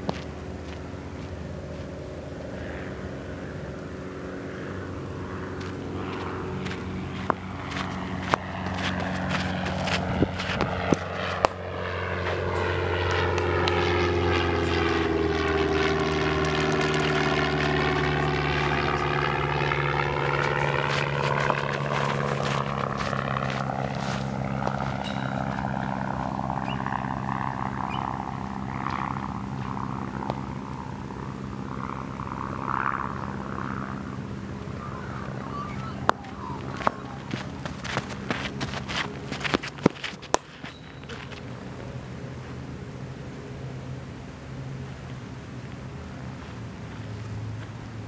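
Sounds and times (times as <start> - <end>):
aircraft passing overhead: 0.0 - 48.0.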